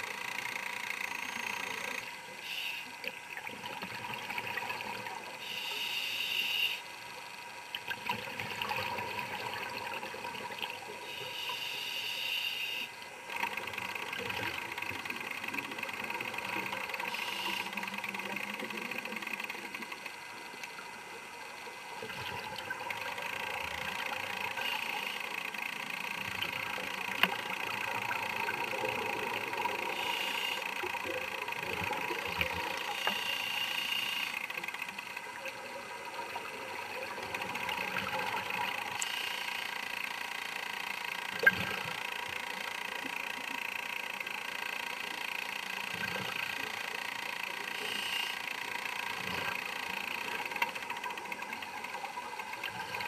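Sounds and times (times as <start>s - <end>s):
steady mechanical whir: 0.0s - 3.4s, 10.9s - 22.1s, 22.8s - 53.0s.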